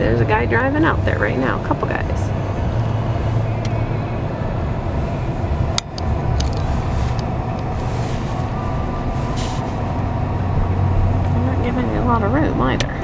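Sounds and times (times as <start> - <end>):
road and engine rumble in cab: 0.0 - 13.0.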